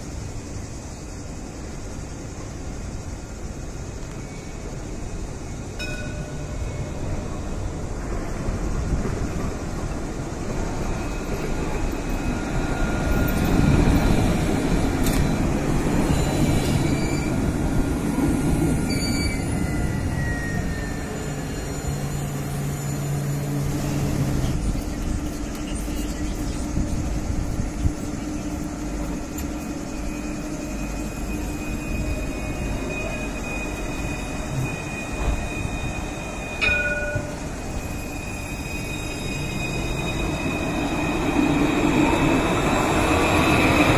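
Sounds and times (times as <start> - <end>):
tram electric hum: 0.0 - 43.9
tram motor whine: 0.0 - 43.9
tram wheels rumbling on rails: 0.0 - 43.9.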